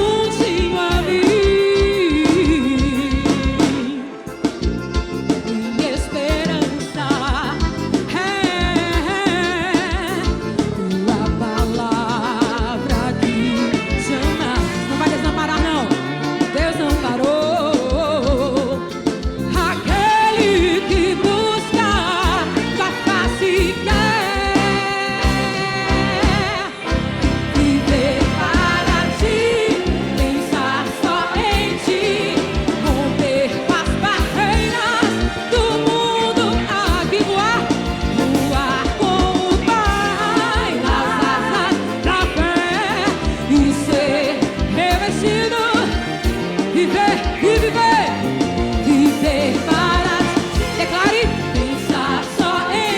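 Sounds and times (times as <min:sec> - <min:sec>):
accordion: 0:00.0 - 0:52.9
drum and bass groove: 0:00.0 - 0:52.9
horns: 0:00.0 - 0:52.9
keyboard melody: 0:00.0 - 0:52.9.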